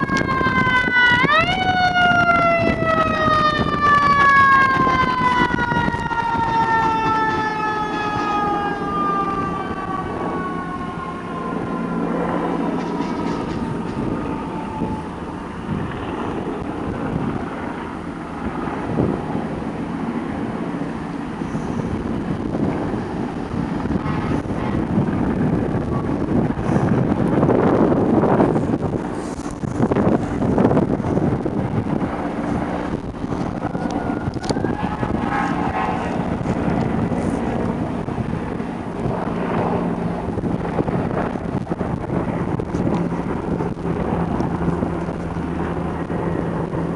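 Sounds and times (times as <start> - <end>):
road rumble: 0.0 - 46.9
vehicle engine: 0.0 - 46.9
wind buffeting microphone: 0.0 - 46.9.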